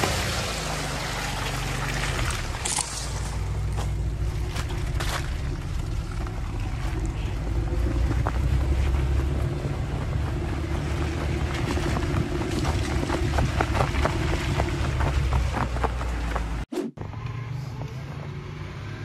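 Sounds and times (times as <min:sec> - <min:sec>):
tyres on muddy slushy track: 0:00.0 - 0:19.0
vehicle engine running: 0:00.0 - 0:19.0.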